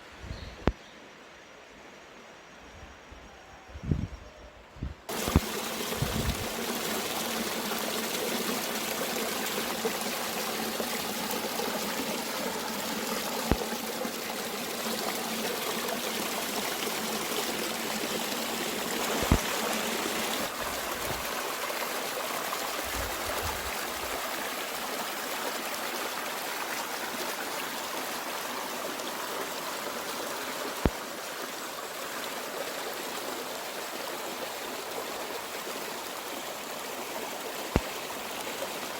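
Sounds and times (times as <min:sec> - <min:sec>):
mountain stream flowing: 0:05.1 - 0:38.9.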